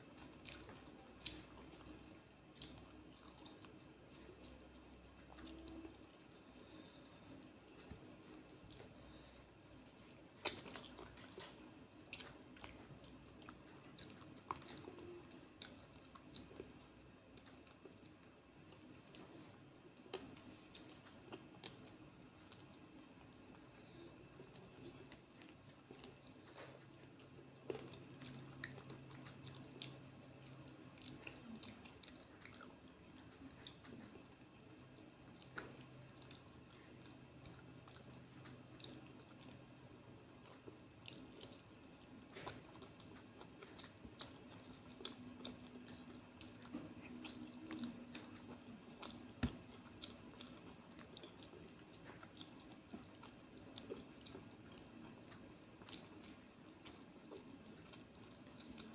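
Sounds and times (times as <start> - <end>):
person chewing food: 0.0 - 58.9.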